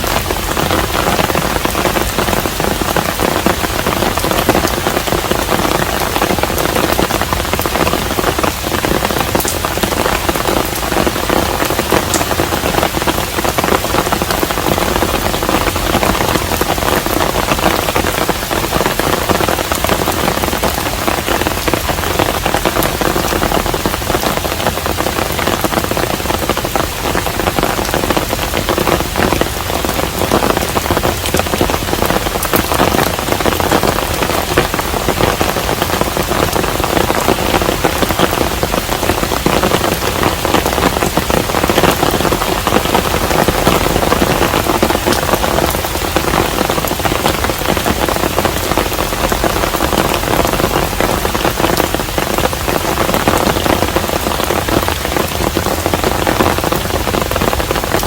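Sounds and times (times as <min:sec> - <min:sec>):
heavy rain on a house: 0:00.0 - 0:58.0.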